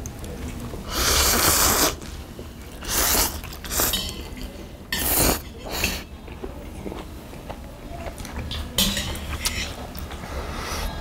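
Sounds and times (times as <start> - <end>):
close eating noises: 0.0 - 11.0.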